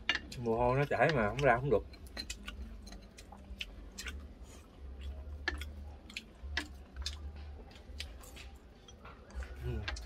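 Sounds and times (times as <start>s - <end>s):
chewing crunches: 0.1s - 10.0s.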